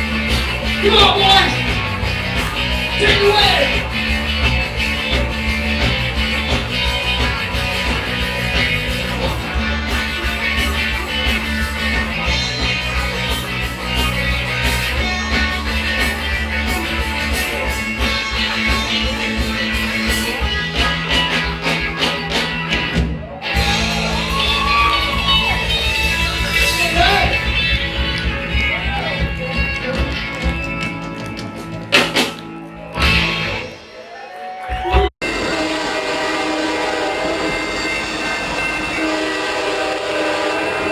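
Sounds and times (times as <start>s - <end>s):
bass and drums: 0.0s - 34.0s, 34.7s - 39.4s.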